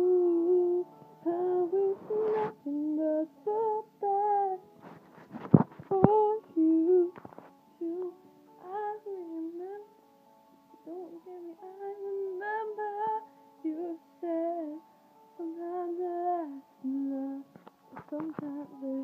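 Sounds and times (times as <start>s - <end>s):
woman singing unaccompanied: 0.0s - 4.6s, 5.9s - 7.2s, 7.8s - 9.9s, 10.8s - 14.8s, 15.4s - 19.0s.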